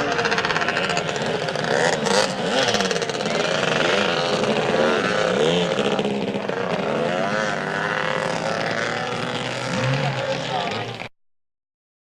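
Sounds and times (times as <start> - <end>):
atv engine revving: 0.0 - 11.1.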